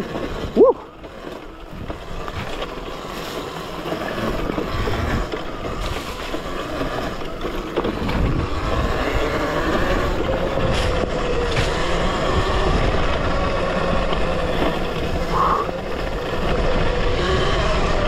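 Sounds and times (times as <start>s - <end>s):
dirt bike rumble and rattle: 0.0s - 18.0s
wind buffeting microphone: 0.0s - 18.0s.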